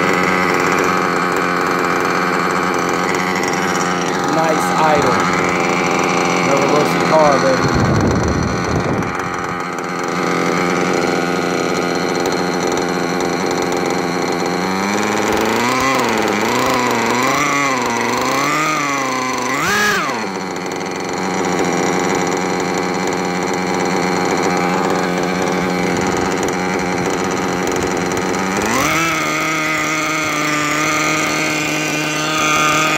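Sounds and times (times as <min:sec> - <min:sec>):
nitro model engine revving: 0:00.0 - 0:32.9.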